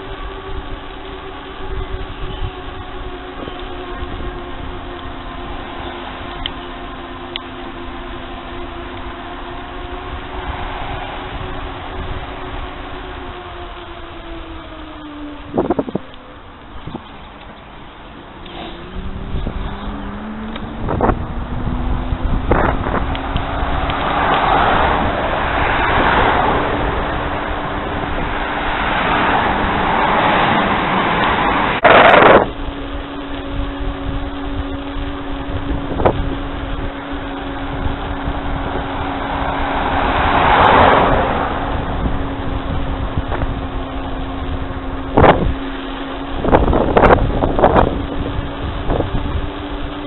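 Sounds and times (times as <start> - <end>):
cars passing: 0.0 - 50.0
steady hum: 0.0 - 50.0
wind buffeting microphone: 0.0 - 50.0.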